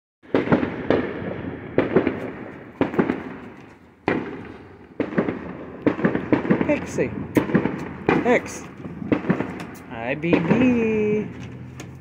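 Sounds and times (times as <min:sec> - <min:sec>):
fireworks banging: 0:00.2 - 0:12.0.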